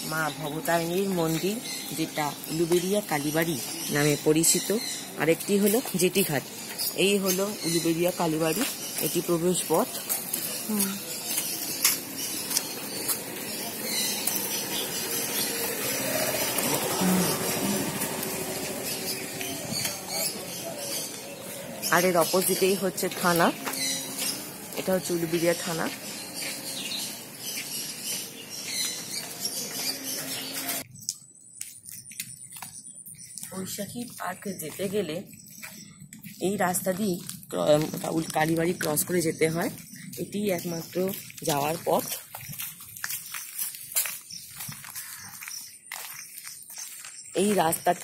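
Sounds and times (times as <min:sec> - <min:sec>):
birds chirping: 0:00.0 - 0:48.0
hissing street ambience: 0:00.0 - 0:48.0
footsteps of sandals: 0:00.1 - 0:48.0.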